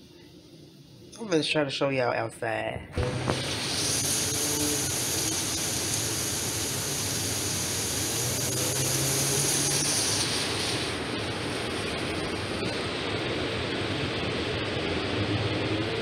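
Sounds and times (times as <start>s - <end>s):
high hiss: 0.0s - 1.2s, 2.9s - 14.8s
storm wind through trees: 2.8s - 16.0s.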